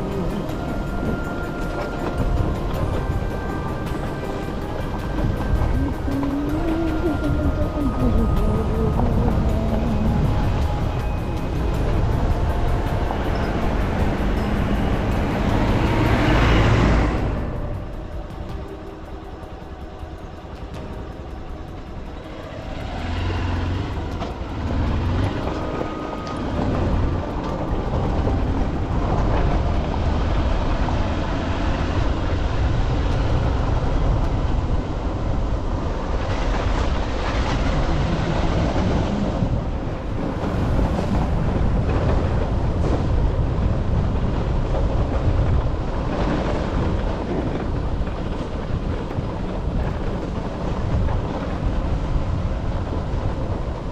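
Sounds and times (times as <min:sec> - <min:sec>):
vehicle rumble on road: 0:00.0 - 0:53.9.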